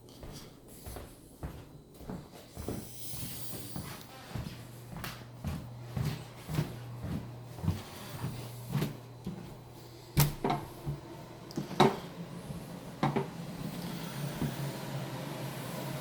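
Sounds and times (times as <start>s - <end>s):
footsteps: 0.0s - 14.7s.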